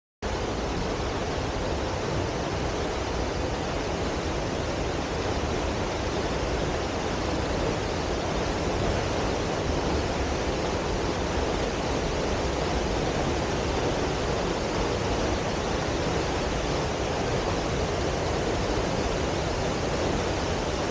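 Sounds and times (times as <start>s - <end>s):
waterfall rushing: 0.3s - 20.9s.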